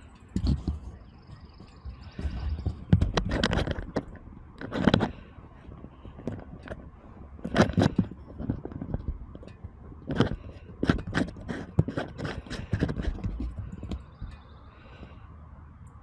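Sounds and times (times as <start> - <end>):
camera handling scrapes and knocks: 0.4 - 1.1, 2.0 - 14.3.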